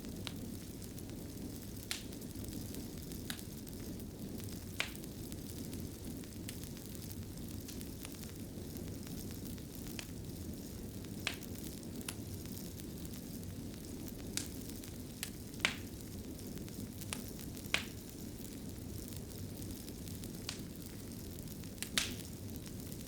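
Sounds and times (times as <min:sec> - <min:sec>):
fire crackling and popping: 0:00.0 - 0:23.0
fire rumbling in fireplace: 0:00.0 - 0:23.0.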